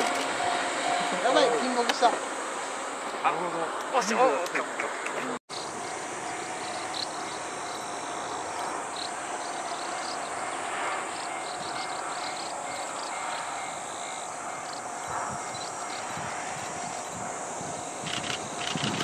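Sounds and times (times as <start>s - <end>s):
insects chirping: 0.0s - 19.0s
outdoor background hiss: 0.0s - 19.0s.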